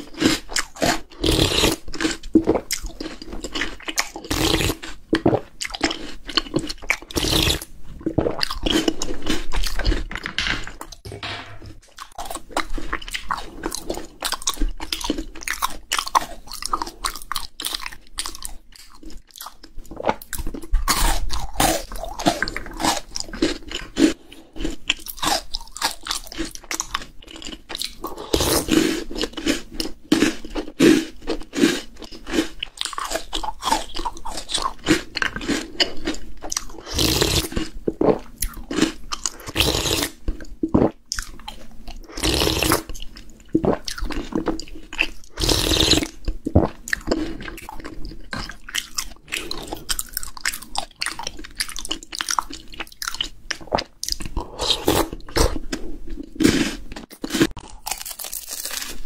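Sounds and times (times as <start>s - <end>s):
chocolate balls crunching: 0.0s - 11.0s, 12.0s - 59.0s.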